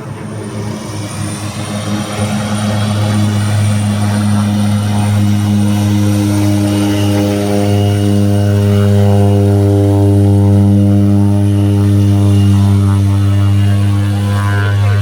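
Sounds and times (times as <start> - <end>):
turboprop engine droning: 0.0 - 15.0.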